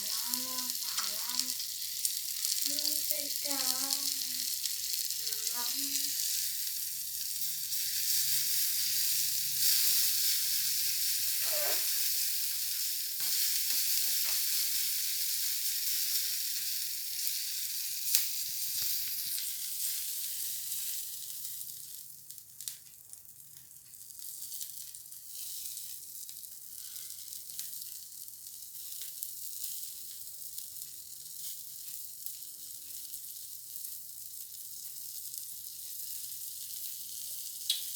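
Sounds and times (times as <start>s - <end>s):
shrimp sizzling in hot oil: 0.0s - 37.9s.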